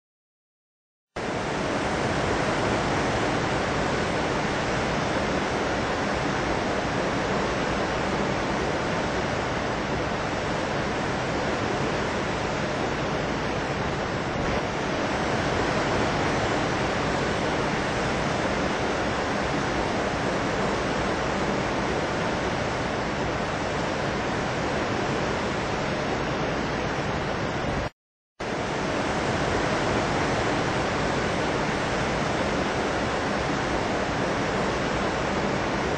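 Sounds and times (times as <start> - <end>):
steady rushing noise: 1.2 - 35.9.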